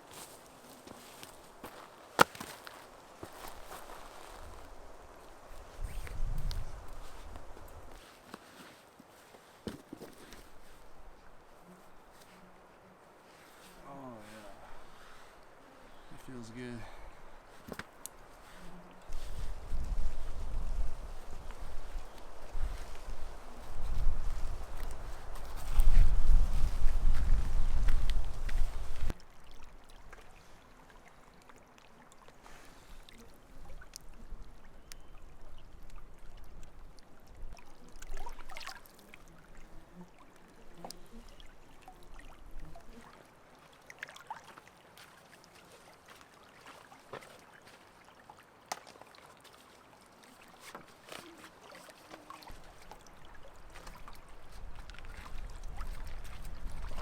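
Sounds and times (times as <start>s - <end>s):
water lapping and trickling: 0.0s - 57.0s.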